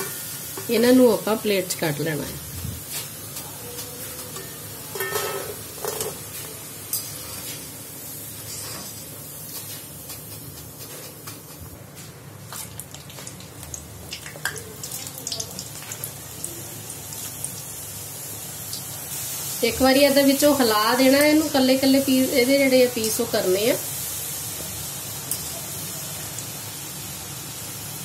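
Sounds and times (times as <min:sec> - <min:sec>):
hot oil sizzling and popping: 0:00.0 - 0:28.0.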